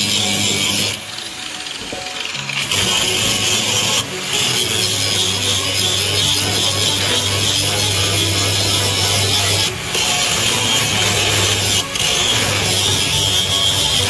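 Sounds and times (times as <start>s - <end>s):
angle grinder grinding metal: 0.0s - 14.0s.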